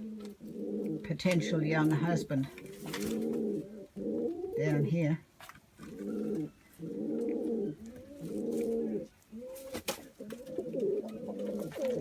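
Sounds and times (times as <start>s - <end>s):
doves cooing: 0.0s - 5.0s, 5.8s - 12.0s.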